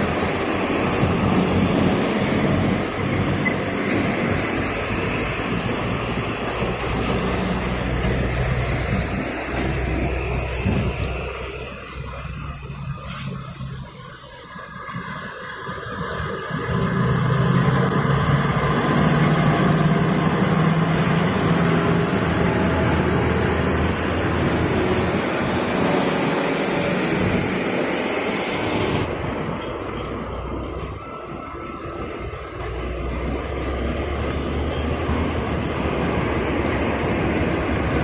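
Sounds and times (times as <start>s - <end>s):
road noise: 0.0s - 38.0s
truck diesel engine: 0.0s - 38.0s.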